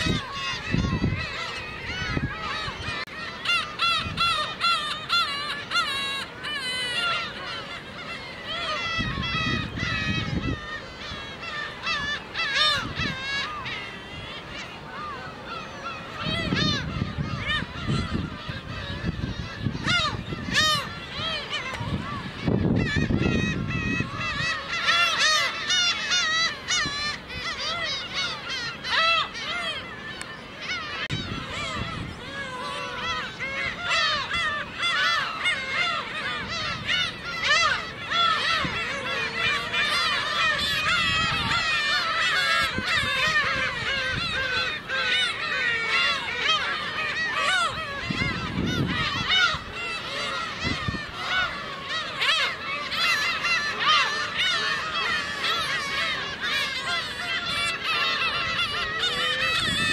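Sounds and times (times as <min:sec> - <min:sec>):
gulls mewing calls: 0:00.0 - 0:59.9.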